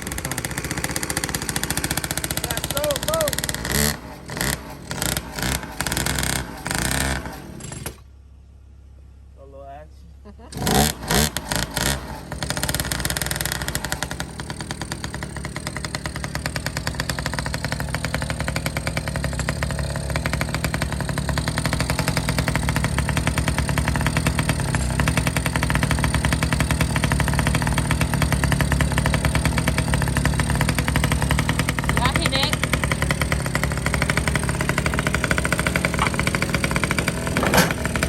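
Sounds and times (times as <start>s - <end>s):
two-stroke engine buzzing: 0.0s - 8.1s, 10.3s - 38.0s.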